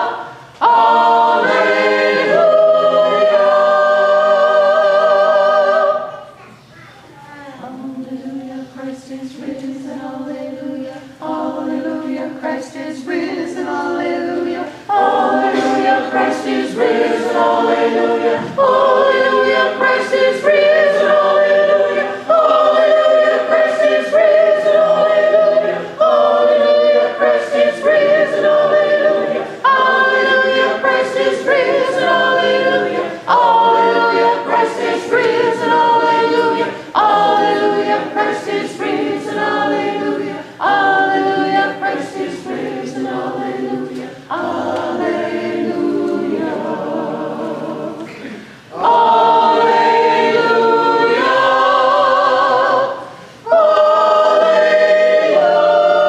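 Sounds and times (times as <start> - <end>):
choir singing a hymn: 0.0 - 6.4, 7.6 - 56.0.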